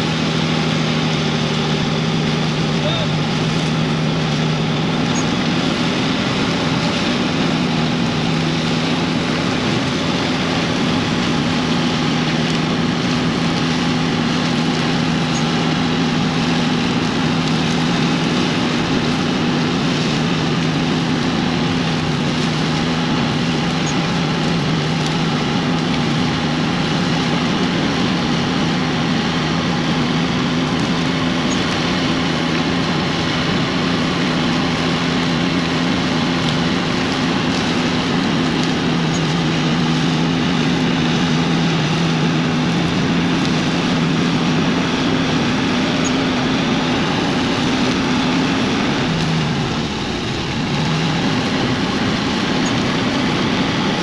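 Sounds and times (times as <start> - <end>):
tractor engine drone: 0.0 - 54.0.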